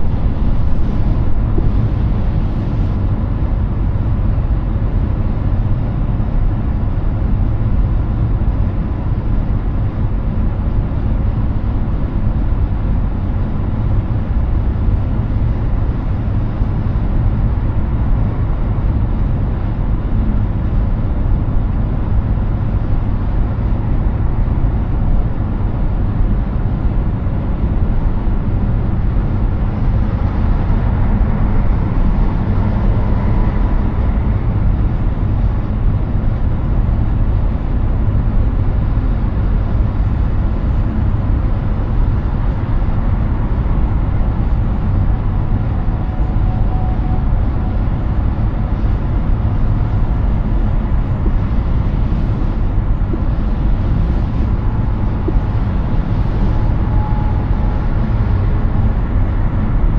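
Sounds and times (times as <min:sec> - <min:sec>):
wind rush: 0:00.0 - 0:59.9.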